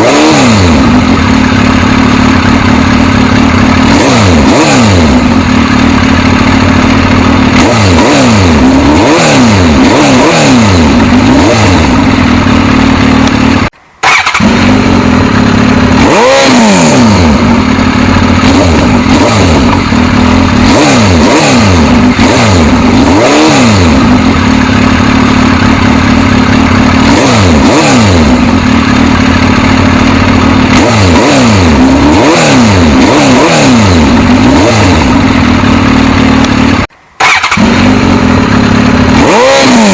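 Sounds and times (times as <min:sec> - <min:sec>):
motorcycle engine throttle blips: 0:00.0 - 0:39.9.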